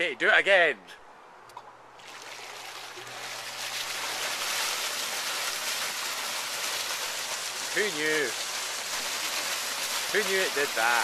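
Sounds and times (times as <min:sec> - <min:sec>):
water jet gushing and splashing: 0:02.0 - 0:11.0.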